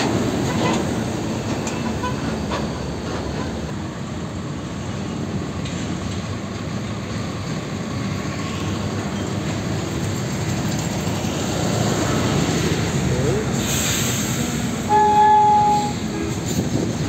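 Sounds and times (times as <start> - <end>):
diesel trucks passing: 0.0 - 17.0
tyre and road noise: 0.0 - 17.0.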